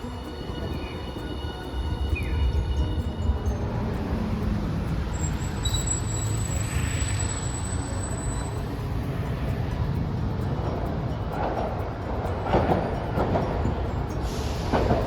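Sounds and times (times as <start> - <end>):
low rumble of traffic: 0.0 - 15.0
streetcar high whine: 0.0 - 15.0.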